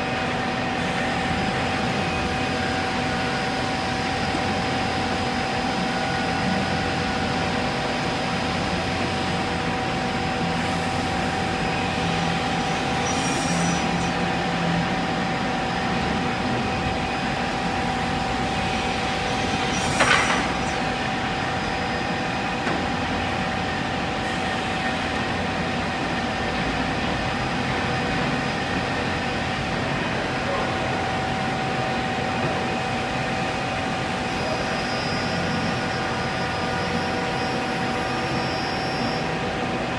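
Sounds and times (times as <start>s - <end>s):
panel saw humming and whining: 0.0s - 30.0s, 30.7s - 39.9s.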